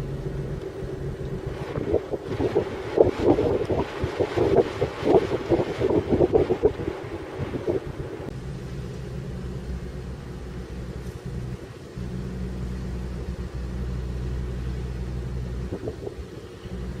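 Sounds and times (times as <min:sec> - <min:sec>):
boat diesel engine humming: 0:00.0 - 0:17.0.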